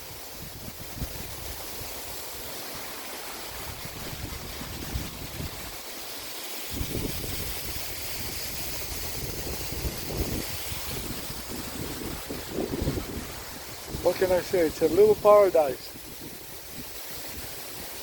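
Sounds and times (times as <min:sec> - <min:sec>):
waterfall rushing: 0:00.0 - 0:18.0
wind buffeting microphone: 0:00.2 - 0:02.2, 0:03.5 - 0:05.8, 0:06.7 - 0:18.0.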